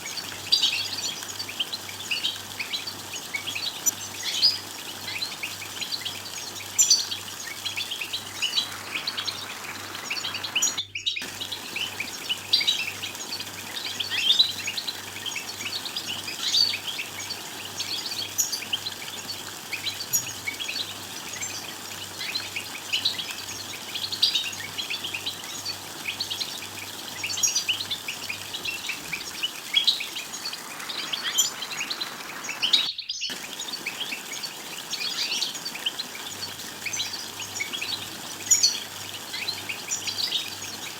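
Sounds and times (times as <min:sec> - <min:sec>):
goldfinches twittering: 0:00.0 - 0:40.9.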